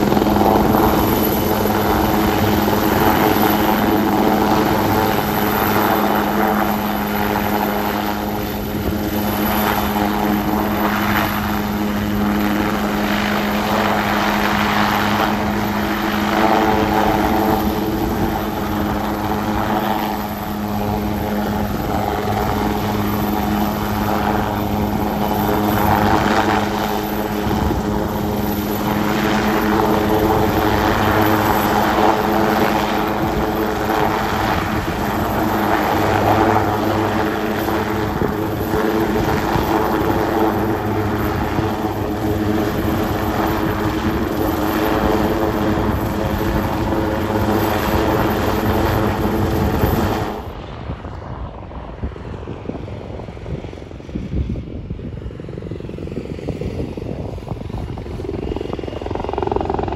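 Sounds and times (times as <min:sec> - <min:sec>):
helicopter rotor and turbine hum: 0:00.0 - 0:59.9.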